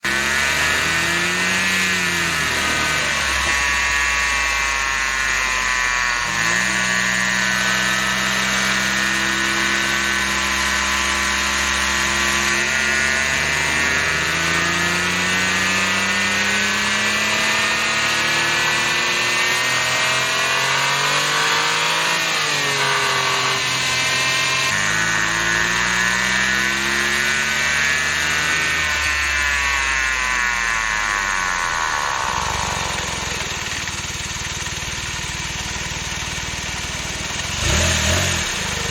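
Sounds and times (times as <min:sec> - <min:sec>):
car running noise: 0:00.0 - 0:38.9
transmission whining: 0:00.0 - 0:38.9.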